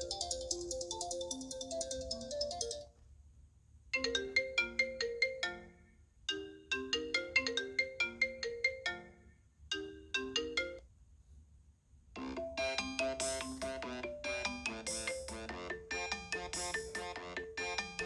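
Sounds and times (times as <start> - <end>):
chiming ringtone melody: 0.0 - 2.9, 4.0 - 10.8, 12.2 - 18.0
plucked ringtone melody: 0.0 - 2.9, 4.0 - 10.8, 12.2 - 18.0.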